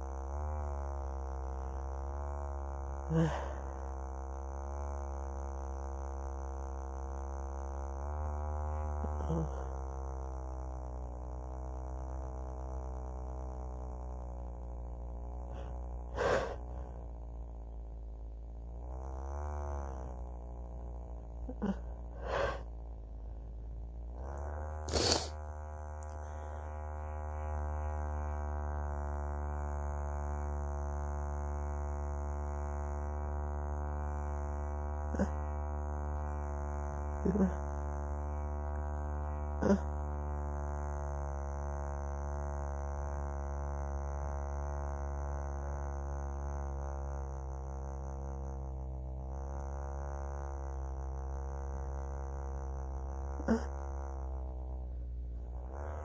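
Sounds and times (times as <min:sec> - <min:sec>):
handheld vibrator buzzing: 0:00.0 - 0:56.0.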